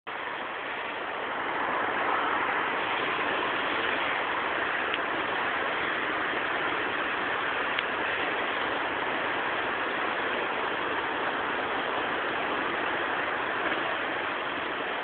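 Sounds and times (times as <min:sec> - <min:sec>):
car traffic rushing: 0:00.1 - 0:15.0.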